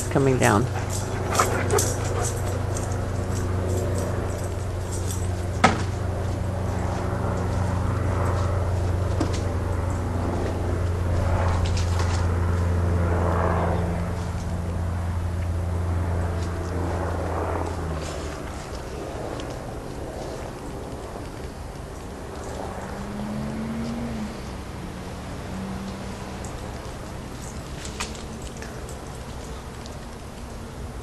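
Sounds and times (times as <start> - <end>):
low engine hum: 0.0 - 31.0.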